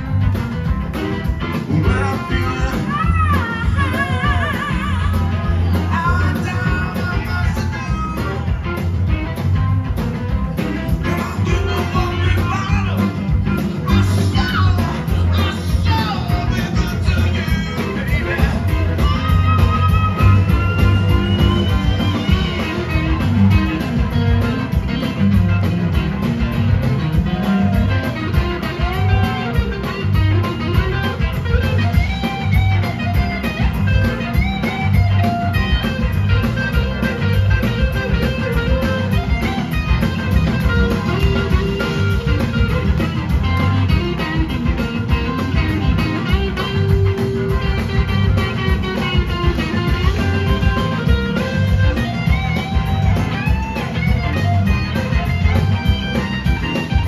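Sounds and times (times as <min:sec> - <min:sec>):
blues rock band playing: 0:00.0 - 0:57.0
electric slide guitar: 0:00.0 - 0:57.0.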